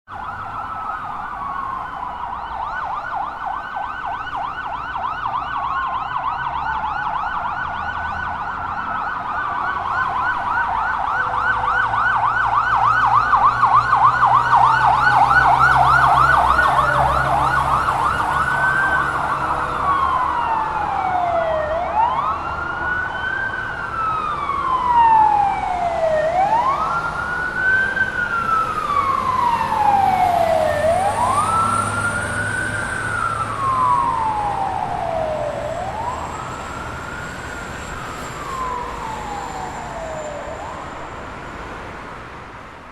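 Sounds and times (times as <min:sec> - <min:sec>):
fire truck sirens wailing: 0:00.0 - 0:42.9
truck engine rumble: 0:00.1 - 0:42.9.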